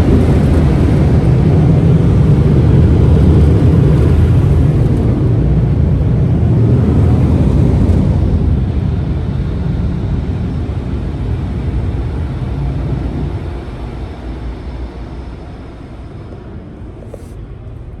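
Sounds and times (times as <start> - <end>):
car rumbling through car wash: 0.0 - 18.0.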